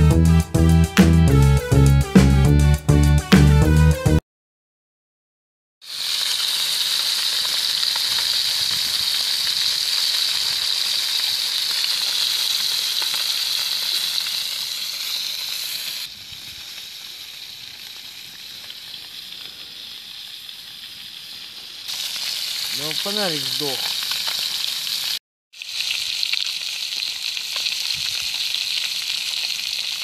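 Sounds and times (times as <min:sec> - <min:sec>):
fish sizzling in a pan: 0:05.8 - 0:30.0.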